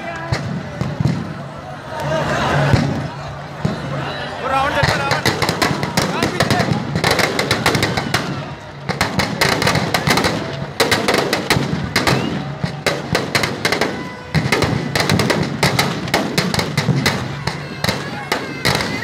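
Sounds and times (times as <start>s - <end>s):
firecrackers cracking and banging: 0.0s - 1.6s, 2.4s - 19.0s.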